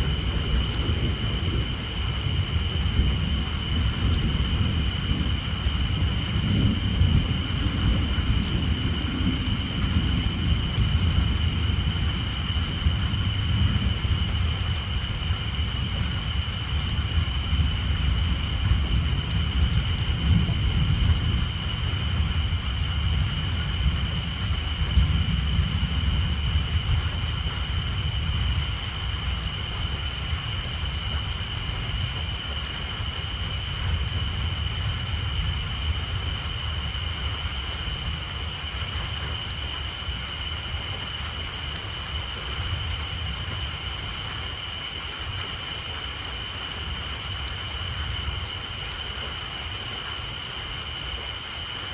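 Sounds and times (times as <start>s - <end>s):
thunder rumbling: 0.0s - 44.2s
rain on a tin roof: 0.0s - 51.9s
tree frogs chorus: 0.0s - 51.9s.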